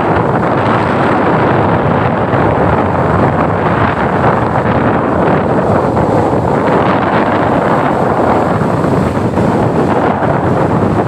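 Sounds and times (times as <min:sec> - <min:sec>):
surf of waves: 0:00.0 - 0:11.0
wind buffeting microphone: 0:00.0 - 0:11.0.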